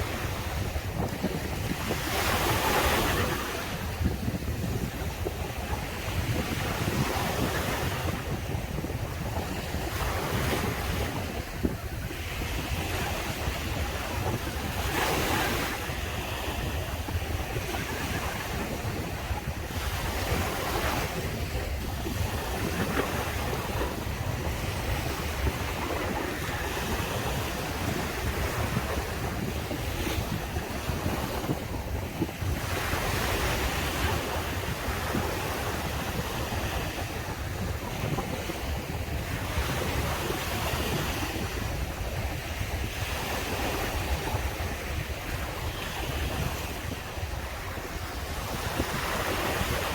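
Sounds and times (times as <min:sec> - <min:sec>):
ocean waves breaking: 0:00.0 - 0:49.9
wind buffeting microphone: 0:00.0 - 0:49.9.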